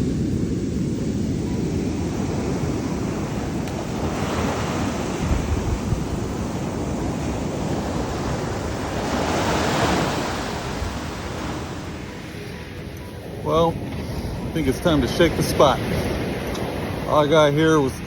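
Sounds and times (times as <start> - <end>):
ocean surf washing on beach: 0.0 - 18.0
wind buffeting microphone: 0.0 - 18.0.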